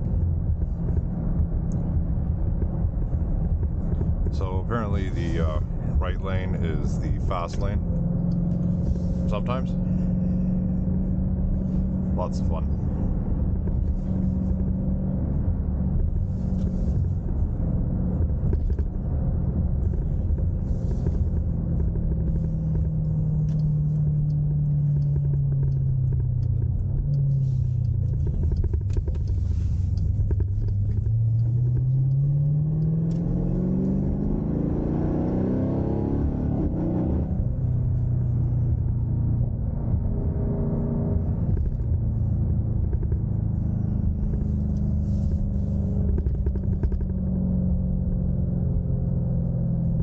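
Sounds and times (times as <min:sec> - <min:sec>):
engine exhaust drone: 0:00.0 - 0:50.0.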